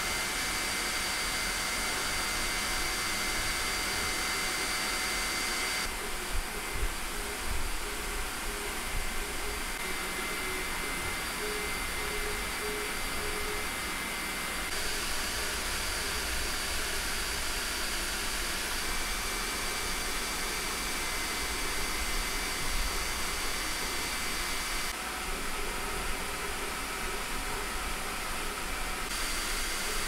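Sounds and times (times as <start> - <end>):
cooling fans rushing: 0.0 - 30.0.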